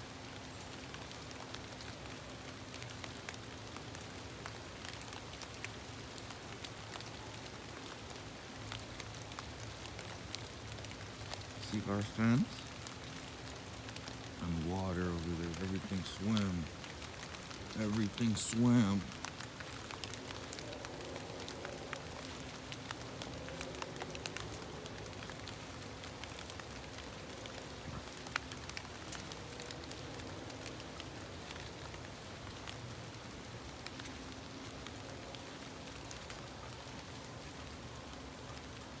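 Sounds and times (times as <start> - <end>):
rain falling on trees: 0.0 - 39.0.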